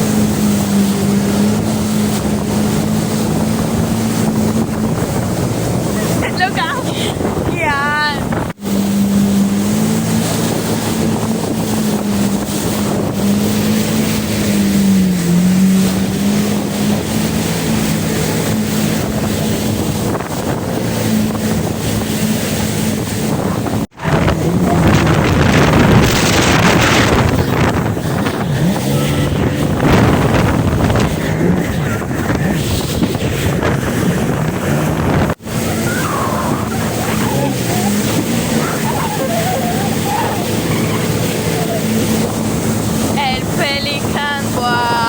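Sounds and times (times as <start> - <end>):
jet ski engine running: 0.0 - 45.0
water noise: 0.0 - 45.0
wind buffeting microphone: 0.0 - 45.0.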